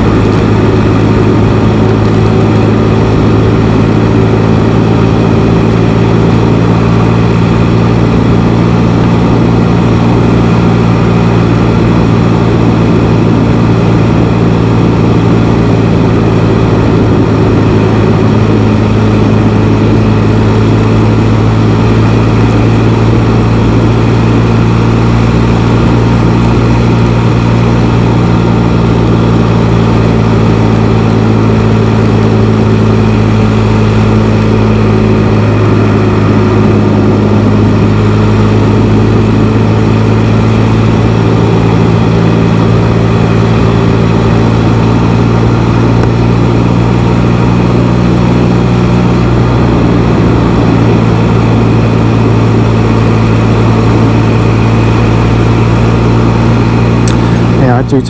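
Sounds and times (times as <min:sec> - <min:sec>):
motorcycle engine running: 0:00.0 - 0:58.0
road noise: 0:00.0 - 0:58.0.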